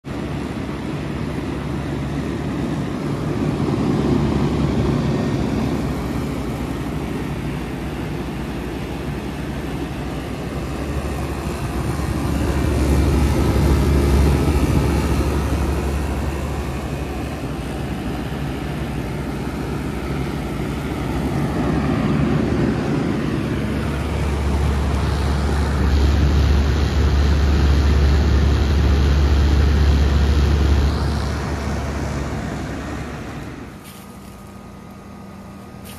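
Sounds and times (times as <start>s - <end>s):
compressor hum: 0.0s - 35.9s
fan rushing: 0.0s - 35.9s.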